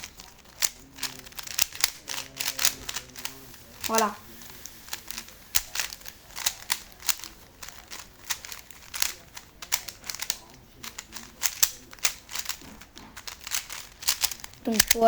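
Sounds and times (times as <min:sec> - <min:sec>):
puzzle cube plastic clicks: 0:00.0 - 0:15.0.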